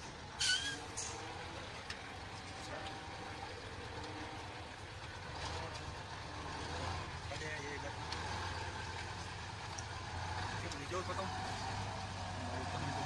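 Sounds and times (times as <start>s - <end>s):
truck engine droning under load: 0.0s - 13.0s.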